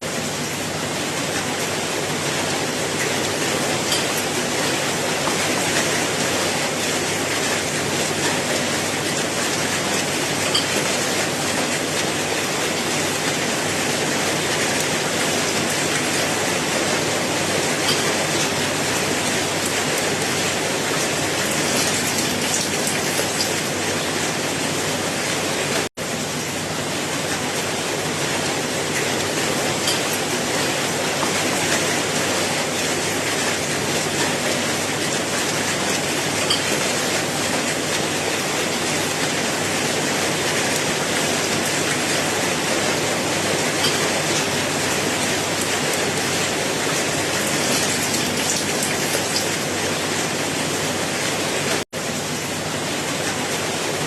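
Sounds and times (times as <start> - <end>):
steady rain hiss: 0.1 - 54.0.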